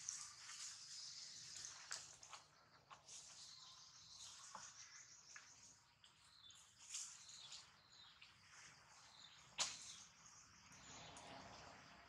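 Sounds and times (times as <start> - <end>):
faint high-pitched chirping: 0.0 - 12.0.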